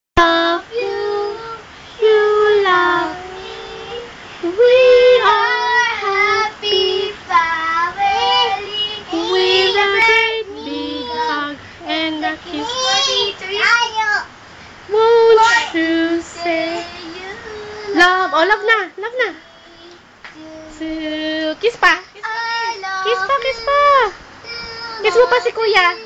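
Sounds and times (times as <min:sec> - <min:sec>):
child singing: 0:00.2 - 0:14.3, 0:15.1 - 0:18.6, 0:22.0 - 0:26.0.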